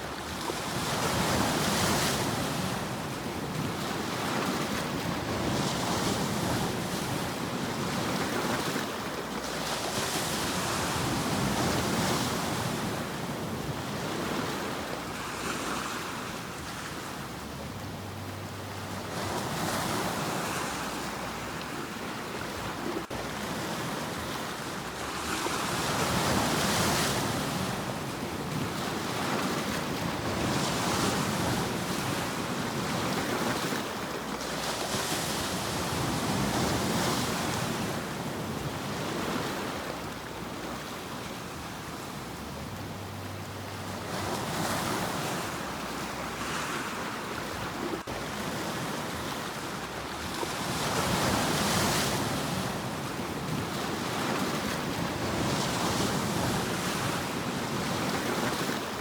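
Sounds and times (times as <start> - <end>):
sea waves breaking on shore: 0.0 - 59.0.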